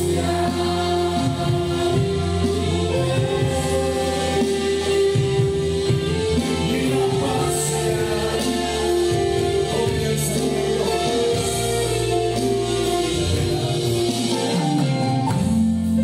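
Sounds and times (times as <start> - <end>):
woman singing: 0.0 - 14.7
live worship band: 0.0 - 16.0.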